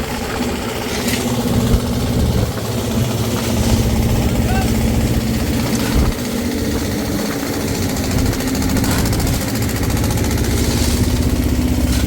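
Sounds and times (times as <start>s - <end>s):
small engine knocking: 0.0s - 12.0s.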